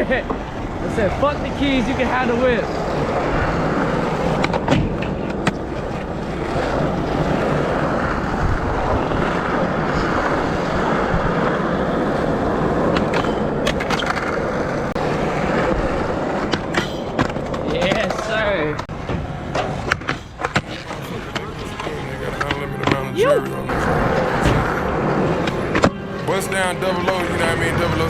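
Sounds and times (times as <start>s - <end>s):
skateboard clacks: 0.0s - 23.0s
skateboard wheels rumbling: 0.0s - 23.1s, 23.7s - 28.0s.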